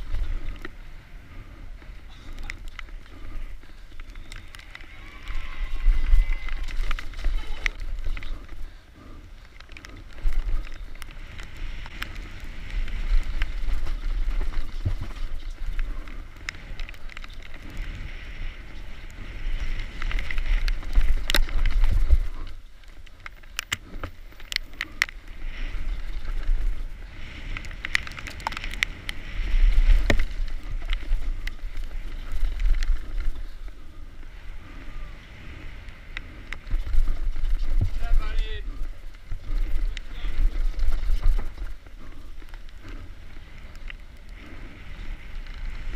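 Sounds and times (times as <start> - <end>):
bike rattling over bumps: 0.0 - 45.9
bike tyres rolling over gravel: 0.0 - 45.9
wind buffeting microphone: 0.0 - 45.9.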